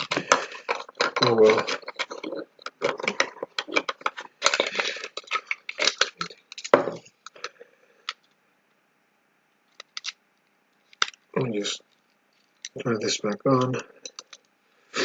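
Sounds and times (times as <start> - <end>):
small hard parts clattering: 0.0 - 8.2, 9.7 - 10.2, 10.8 - 14.5.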